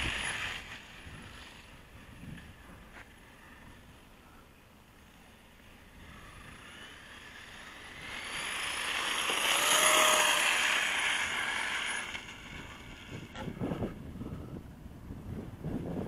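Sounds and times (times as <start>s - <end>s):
electric motor whine: 0.0s - 14.7s.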